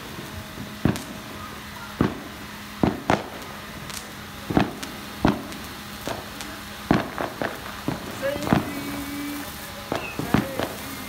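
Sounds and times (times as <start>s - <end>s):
spark machine hissing: 0.0s - 11.0s
sharp pops: 0.7s - 1.2s, 2.0s - 11.0s.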